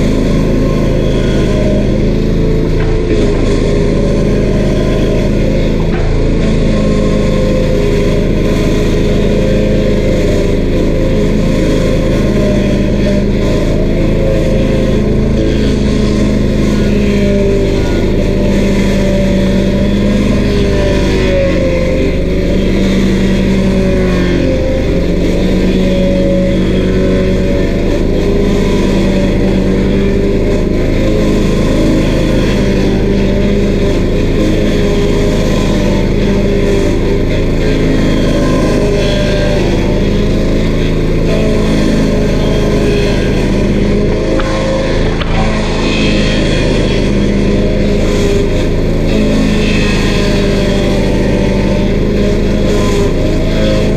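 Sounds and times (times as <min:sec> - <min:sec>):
cutter wheel grinding stump: 0:00.0 - 0:53.9
stump grinder engine running: 0:00.0 - 0:53.9.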